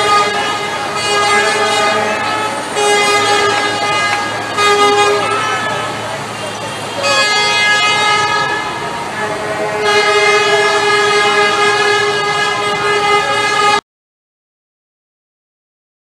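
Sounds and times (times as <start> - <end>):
crowd noise: 0.0 - 13.8
vehicle horn blasts: 0.0 - 13.8.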